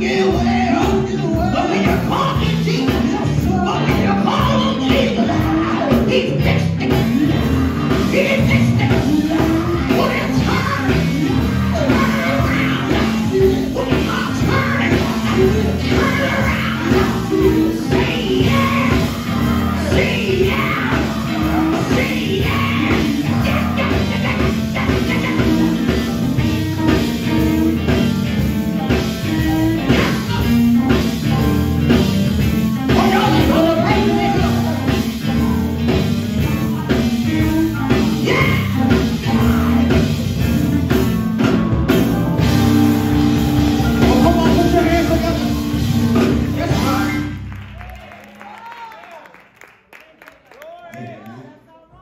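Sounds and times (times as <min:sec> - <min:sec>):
lead singer singing: 0:00.0 - 0:47.4
rock band playing: 0:00.0 - 0:48.5.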